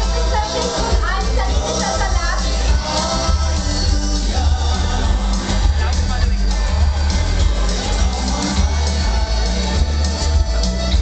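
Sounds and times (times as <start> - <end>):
music with steady bass line: 0.0 - 11.0.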